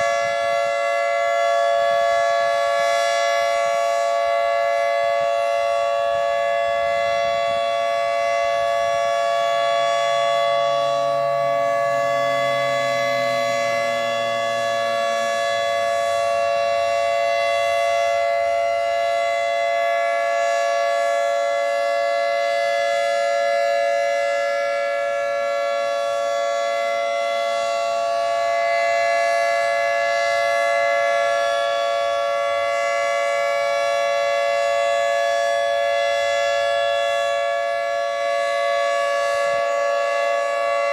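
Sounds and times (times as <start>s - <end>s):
two-tone warning siren: 0.0s - 40.9s.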